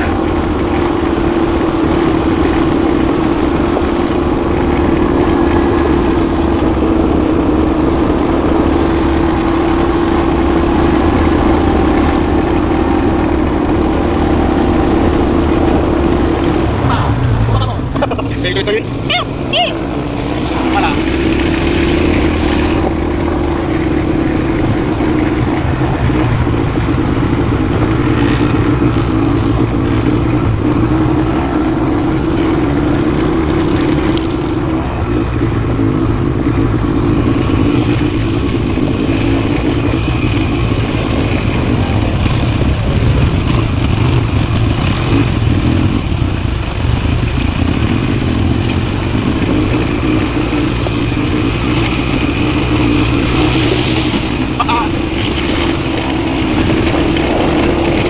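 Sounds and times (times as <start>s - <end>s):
atv engine running steadily: 0.0s - 58.0s.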